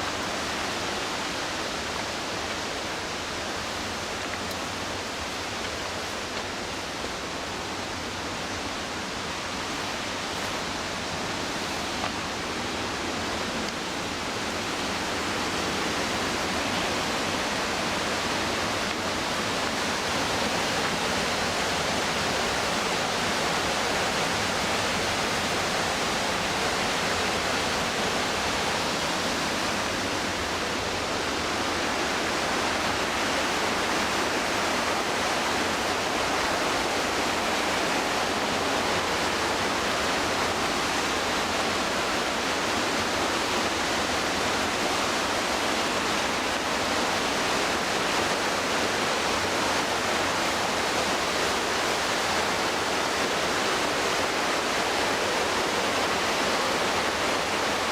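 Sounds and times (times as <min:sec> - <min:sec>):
whitewater rushing: 0:00.0 - 0:57.9.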